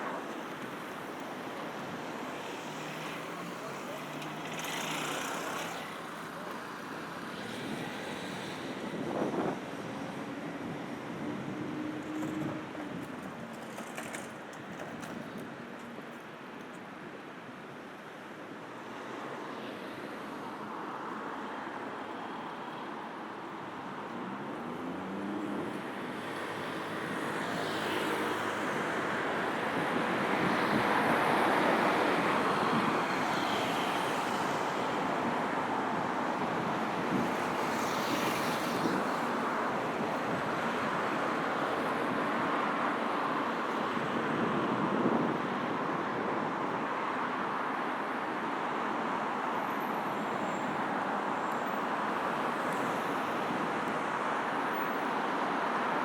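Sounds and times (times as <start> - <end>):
vehicles passing: 0.0 - 17.1, 18.8 - 56.0
city road traffic: 0.0 - 56.0.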